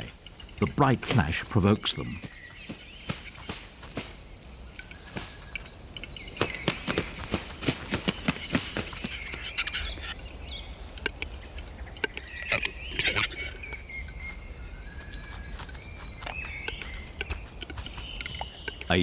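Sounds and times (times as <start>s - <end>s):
high chirping bird calls: 0.0s - 19.0s.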